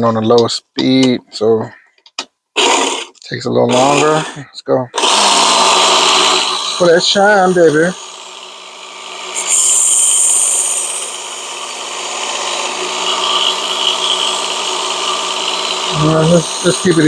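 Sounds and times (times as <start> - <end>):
belt sharpener running: 2.6 - 4.2, 5.0 - 17.0
blade grinding on belt: 2.6 - 4.4, 5.0 - 17.0.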